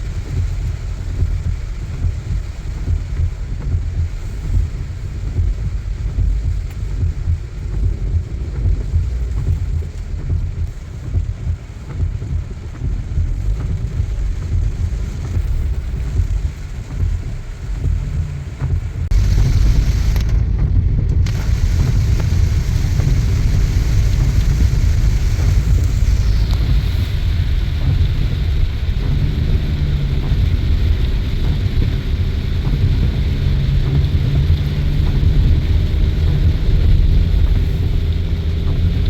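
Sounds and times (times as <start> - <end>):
rain and spray hissing: 0.0 - 39.0
tyres rumbling on wet road: 0.0 - 39.0.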